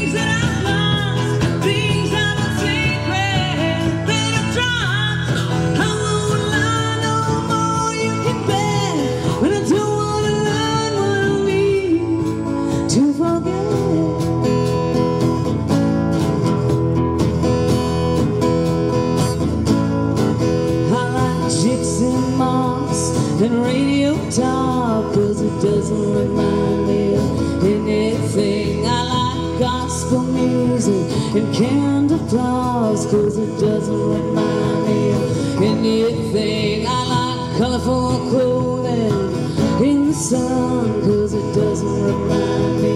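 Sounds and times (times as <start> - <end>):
woman singing: 0.0 - 15.0, 20.6 - 42.9
acoustic guitars playing: 0.0 - 42.9.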